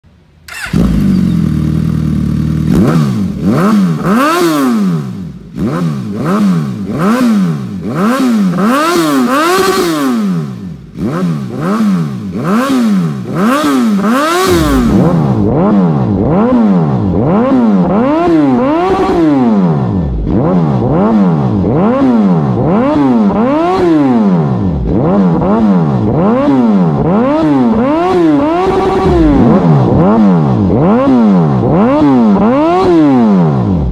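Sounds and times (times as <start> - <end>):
motorcycle engine revving: 0.5 - 33.9.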